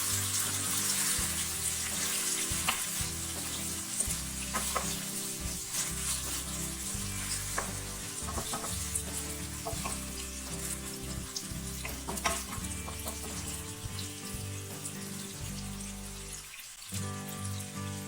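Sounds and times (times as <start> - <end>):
spatula clicking and scraping pan: 0.0 - 17.0
food sizzling in a hot pan: 0.0 - 18.0.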